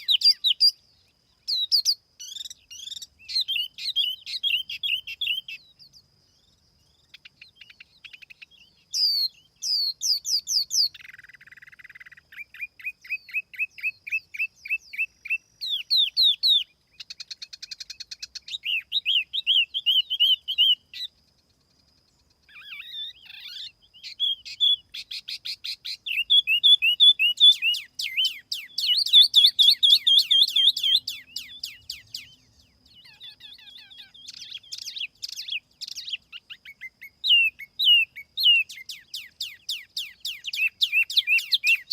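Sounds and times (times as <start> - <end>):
songbird chirps and trills: 0.0 - 41.9.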